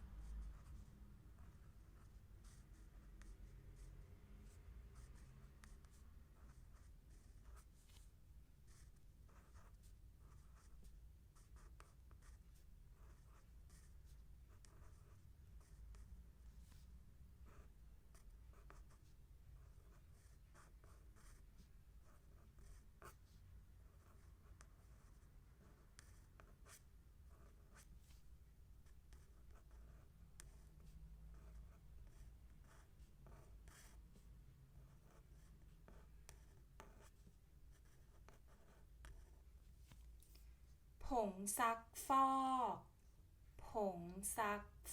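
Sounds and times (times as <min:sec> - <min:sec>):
pen scratching on paper: 0:00.0 - 0:40.1.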